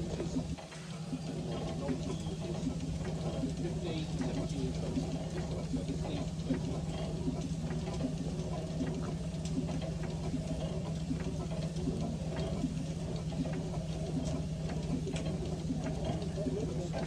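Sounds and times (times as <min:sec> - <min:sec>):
steady low hum: 0:00.0 - 0:17.0
steam engine knocking and clicking: 0:00.0 - 0:17.0.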